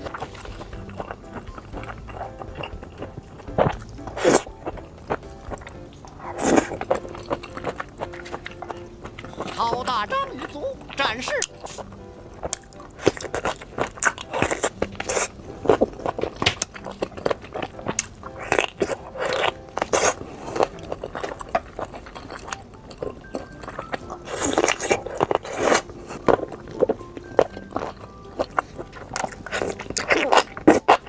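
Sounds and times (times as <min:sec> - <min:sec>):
person biting and chewing food: 0:00.0 - 0:09.6, 0:10.4 - 0:31.0.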